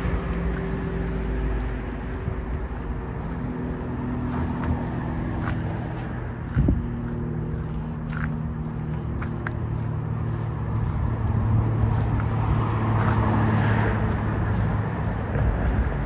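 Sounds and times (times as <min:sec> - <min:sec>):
vehicle engine running: 0:00.0 - 0:16.0
vehicle passing: 0:00.0 - 0:16.0.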